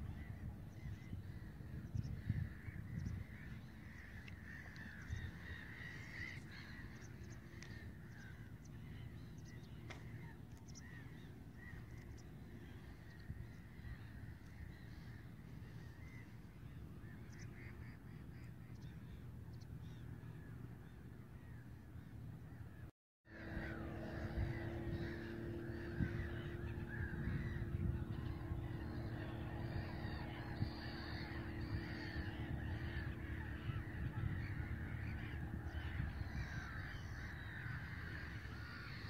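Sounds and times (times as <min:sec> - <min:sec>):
bird calls: 0:00.0 - 0:22.8, 0:23.6 - 0:39.0
low rumble of outdoor air: 0:00.0 - 0:39.0.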